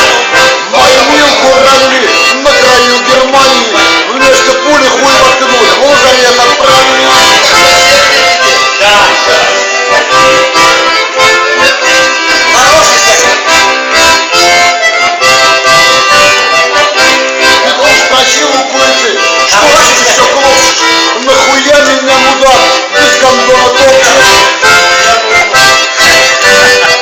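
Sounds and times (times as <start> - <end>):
accordion music: 0.0 - 27.0.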